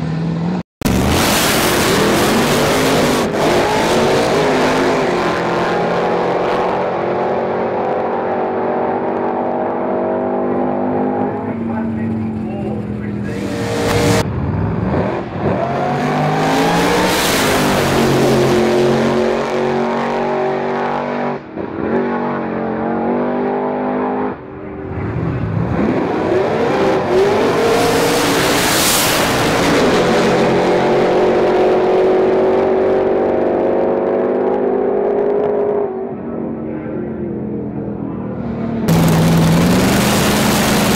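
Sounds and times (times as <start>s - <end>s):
drag racing car engines at full throttle: 0.0s - 40.9s.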